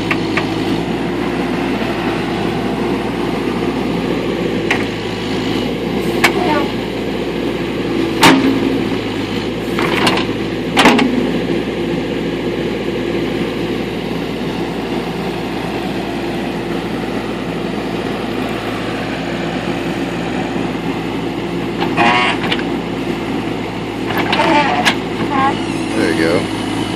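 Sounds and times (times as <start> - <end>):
backhoe engine running: 0.0 - 26.9.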